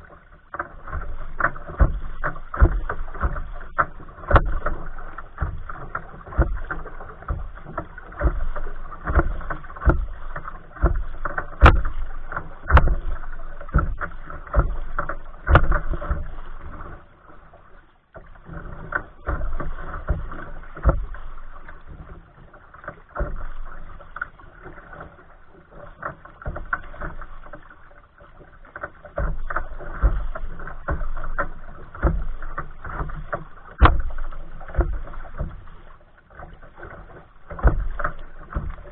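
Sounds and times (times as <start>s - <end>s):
waves splashing against kayak hull: 0.0s - 38.9s.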